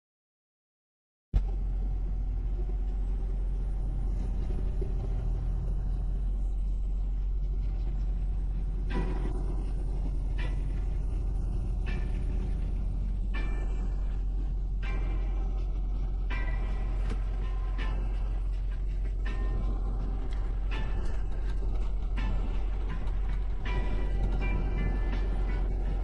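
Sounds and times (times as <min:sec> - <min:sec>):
truck rumbling inside cab: 0:01.4 - 0:26.0.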